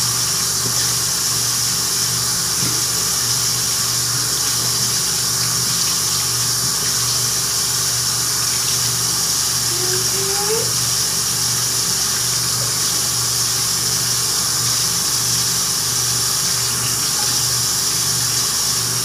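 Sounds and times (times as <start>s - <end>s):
tap water running into sink: 0.0s - 19.0s.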